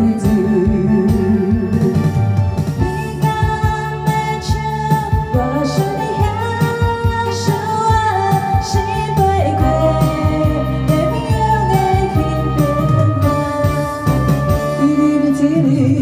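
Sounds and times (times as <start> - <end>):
backing track with drums and bass: 0.0 - 16.0
woman singing into microphone: 0.0 - 16.0.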